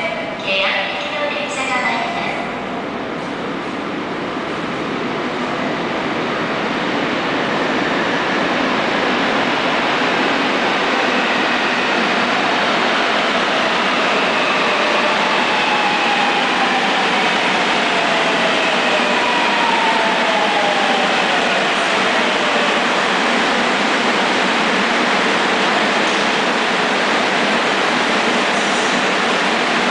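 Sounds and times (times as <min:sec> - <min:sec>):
metro train rumble and hiss: 0:00.0 - 0:29.9.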